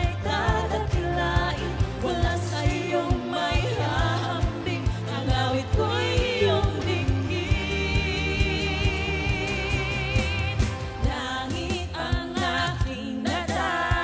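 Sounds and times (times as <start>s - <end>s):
drum beat and bass: 0.0s - 14.0s
people singing with vibrato: 0.0s - 14.0s.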